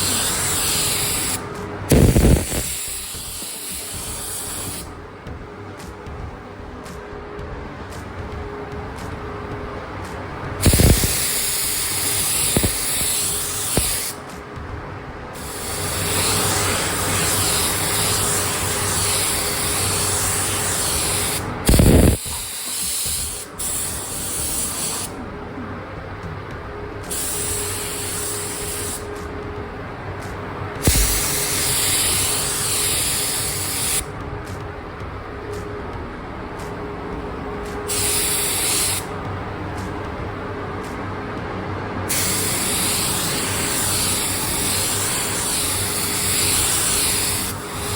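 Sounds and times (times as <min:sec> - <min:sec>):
paint spraying hiss: 0:00.0 - 0:06.1, 0:07.9 - 0:14.6, 0:15.3 - 0:25.4, 0:26.3 - 0:34.8, 0:36.5 - 0:41.2, 0:42.0 - 0:47.9.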